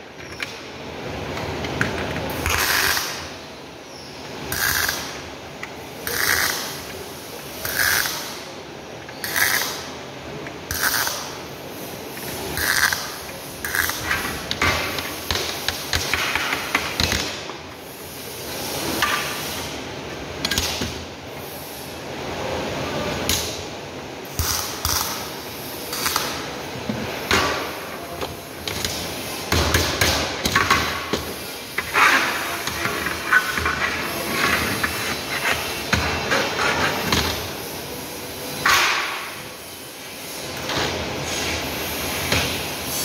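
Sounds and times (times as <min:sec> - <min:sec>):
steady background noise: 0:00.0 - 0:43.0.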